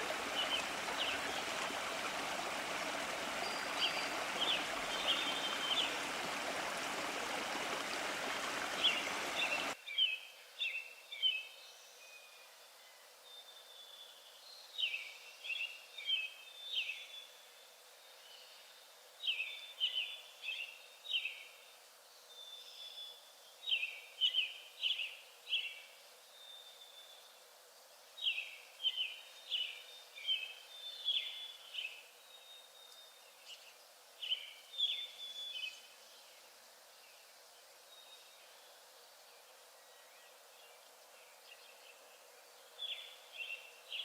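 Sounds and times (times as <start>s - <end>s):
background hiss: 0.0s - 44.0s
songbird chirping: 0.0s - 44.0s.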